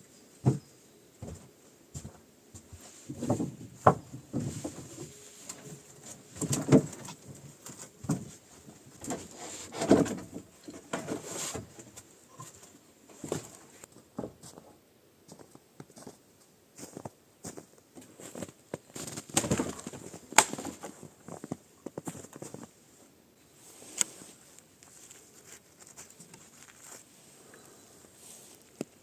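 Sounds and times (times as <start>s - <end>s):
things being handled and moved: 0.4s - 14.7s, 18.0s - 22.9s, 23.6s - 29.0s.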